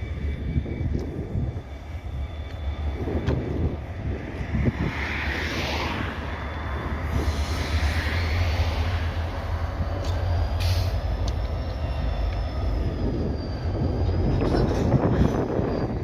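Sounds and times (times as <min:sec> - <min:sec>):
faint high wheel squeal: 0:00.0 - 0:04.6, 0:06.1 - 0:16.0
freight train rumbling: 0:00.0 - 0:16.0.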